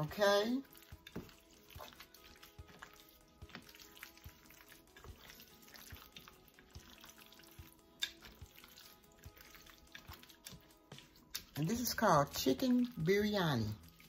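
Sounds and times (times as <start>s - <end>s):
wet squishing of kneaded meat: 0.0s - 14.0s.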